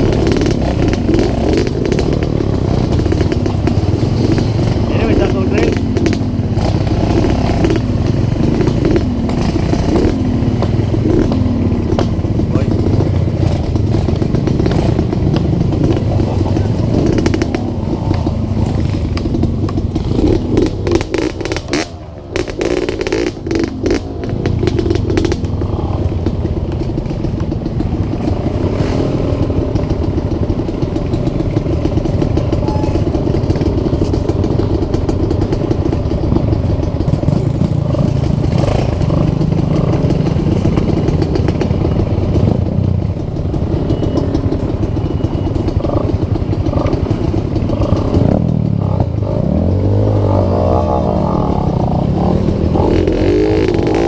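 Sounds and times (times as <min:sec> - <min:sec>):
dirt bike engines: 0:00.0 - 0:54.0.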